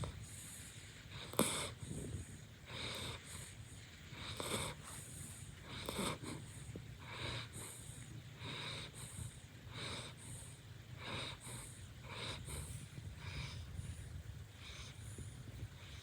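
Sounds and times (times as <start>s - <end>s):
puppy snoring and snuffling: 0.0s - 16.0s.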